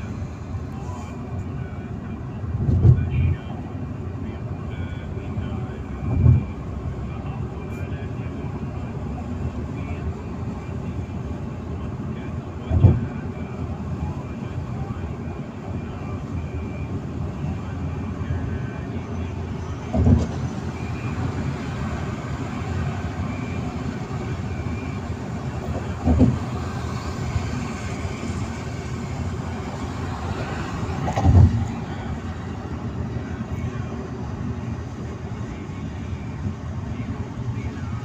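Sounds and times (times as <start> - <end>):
car road and engine noise: 0.0 - 38.0.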